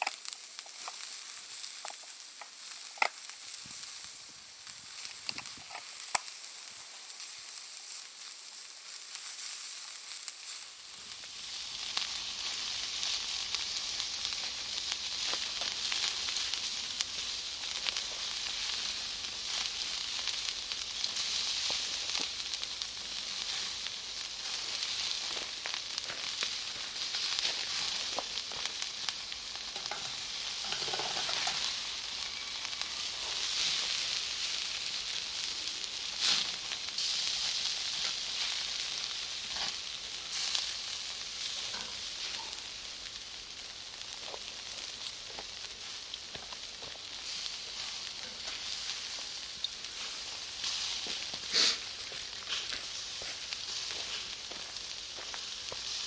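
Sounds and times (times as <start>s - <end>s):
charcoal fire crackling and popping: 0.0s - 56.0s.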